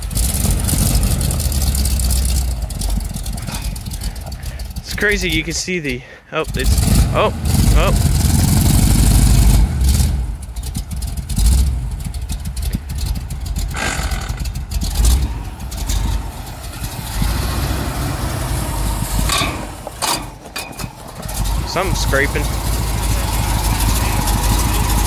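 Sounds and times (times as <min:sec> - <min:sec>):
pickup truck engine rumbling: 0:00.0 - 0:25.0.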